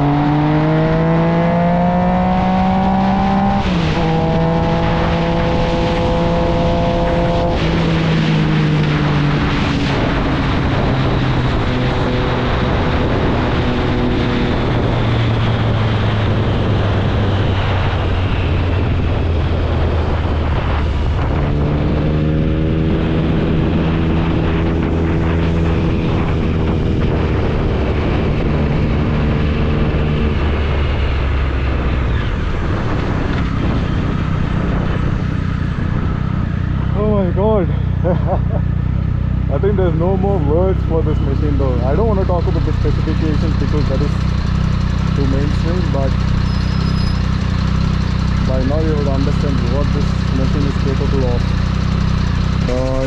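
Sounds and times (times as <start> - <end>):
wind rush: 0.0 - 43.4
motorcycle engine: 0.0 - 53.0.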